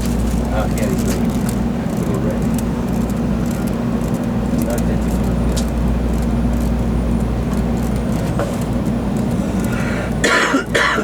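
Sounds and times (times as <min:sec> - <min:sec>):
train running rumble inside car: 0:00.0 - 0:11.0.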